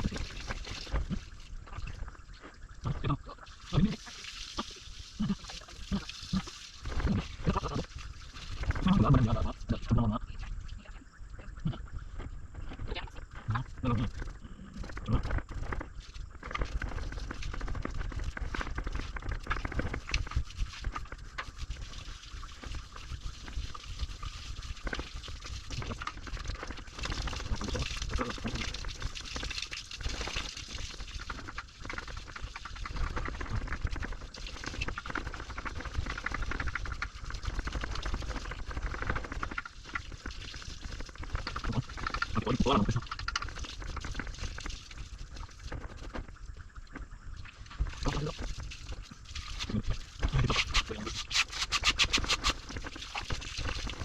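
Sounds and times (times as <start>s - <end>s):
water spraying and splashing: 0.0s - 10.9s, 13.5s - 46.4s, 47.5s - 54.0s.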